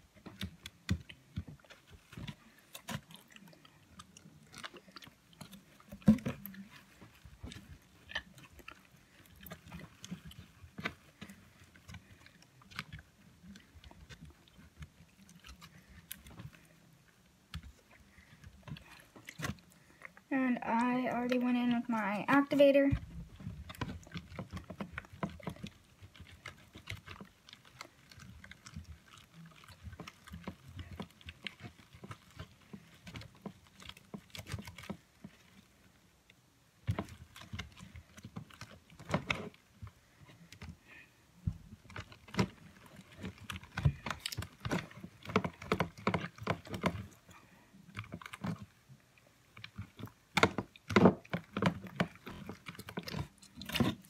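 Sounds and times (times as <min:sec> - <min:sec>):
slime squelching and clicking: 0:00.0 - 0:35.7, 0:36.3 - 0:54.0.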